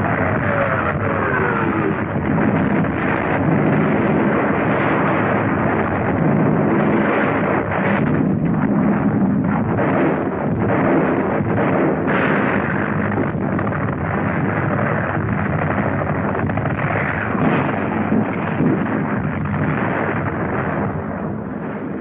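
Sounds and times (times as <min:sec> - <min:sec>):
artillery fire and explosions: 0:00.0 - 0:22.0.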